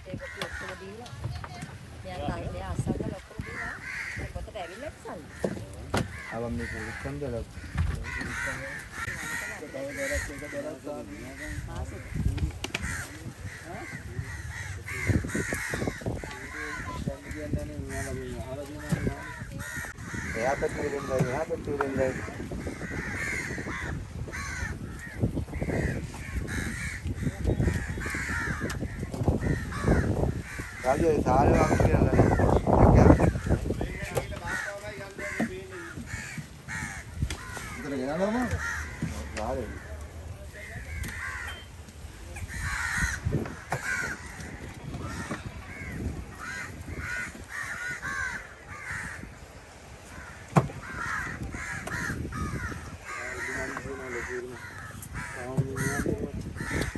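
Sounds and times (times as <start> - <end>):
crows cawing: 0.0 - 56.9.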